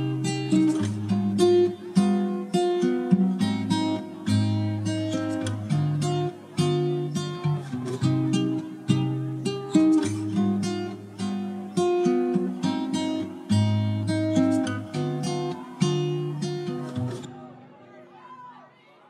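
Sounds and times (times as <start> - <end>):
acoustic guitar music: 0.0 - 17.9.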